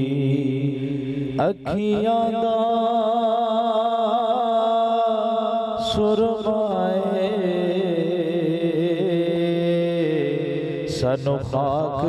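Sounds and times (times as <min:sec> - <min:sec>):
man singing through loudspeakers: 0:00.0 - 0:12.0.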